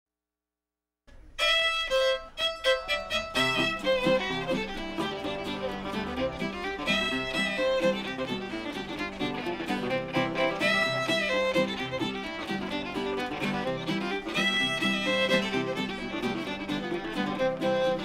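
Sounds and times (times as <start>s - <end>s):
fiddle playing short bowed notes: 1.1s - 18.0s
guitar chords: 1.1s - 18.0s.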